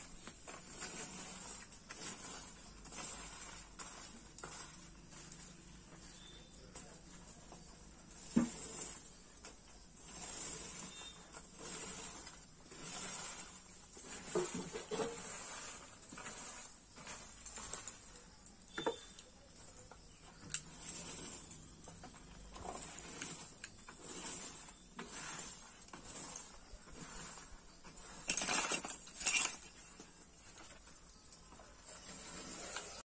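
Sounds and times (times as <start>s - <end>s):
charcoal lumps clinking and scraping: 0.0s - 33.0s.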